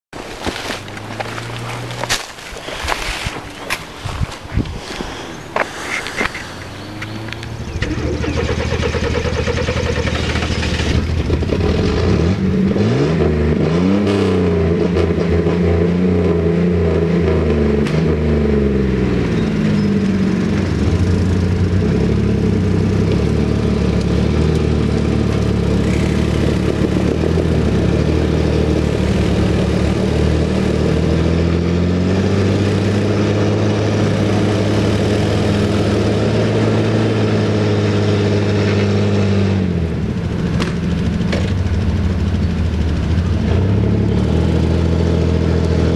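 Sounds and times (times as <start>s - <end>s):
utility vehicle engine revving: 0.4s - 45.9s.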